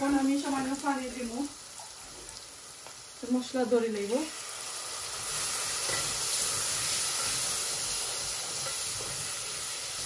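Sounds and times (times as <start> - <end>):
masala sizzling in oil: 0.0 - 10.0.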